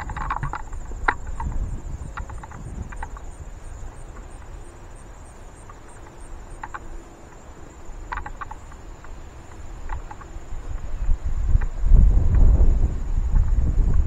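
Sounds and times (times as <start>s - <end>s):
faint ticks: 0.0s - 12.6s
insects trilling: 0.0s - 14.0s.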